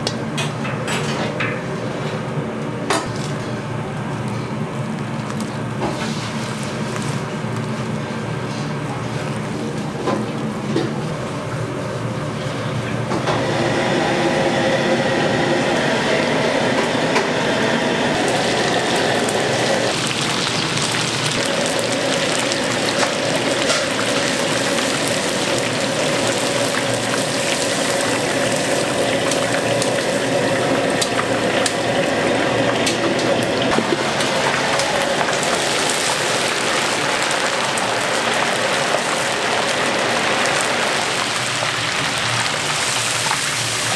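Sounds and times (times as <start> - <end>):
deep-frying sizzle and crackle: 0.0 - 43.9.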